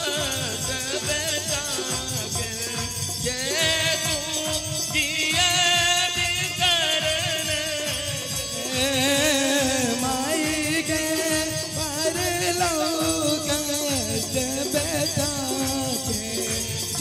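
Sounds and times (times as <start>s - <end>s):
hand drum beat: 0.0s - 17.0s
harmonium: 0.0s - 17.0s
jingling hand percussion: 0.0s - 17.0s
man singing with vibrato: 0.0s - 17.0s.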